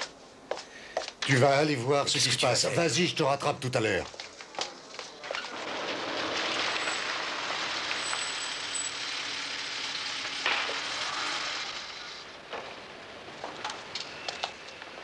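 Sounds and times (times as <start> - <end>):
tyres rolling over cobblestones: 1.0 - 15.0.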